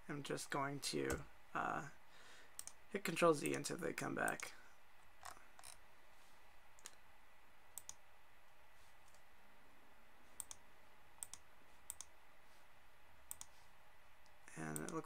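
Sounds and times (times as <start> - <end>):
quiet hiss: 0.0 - 15.0.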